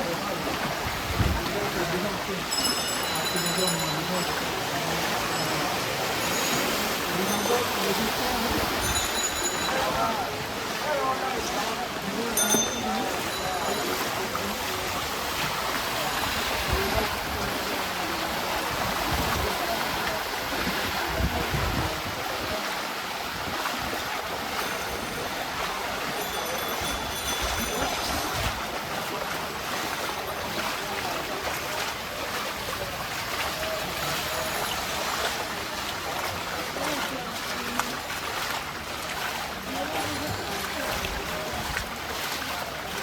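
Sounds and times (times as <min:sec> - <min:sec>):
floodwater splashing and rushing: 0:00.0 - 0:43.0.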